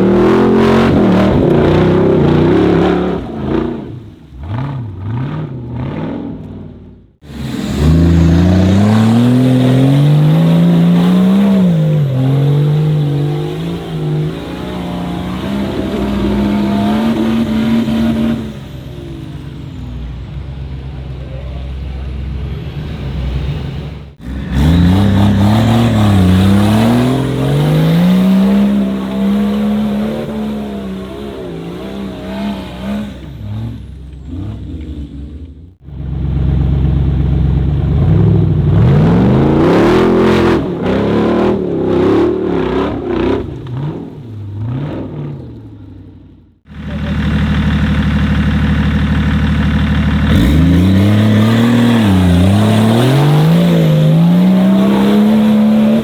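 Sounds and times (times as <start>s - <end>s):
off-road engines revving hard: 0.0s - 46.1s, 46.7s - 56.0s.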